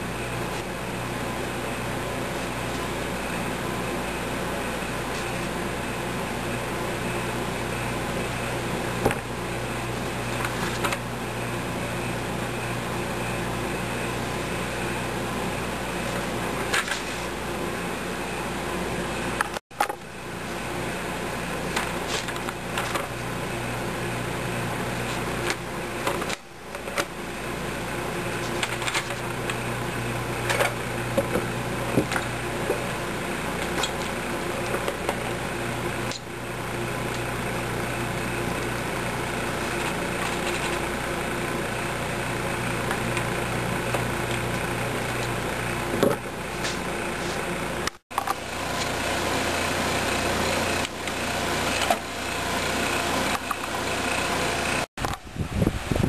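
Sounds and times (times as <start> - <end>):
steady mechanical hum with hiss: 0.0 - 56.0.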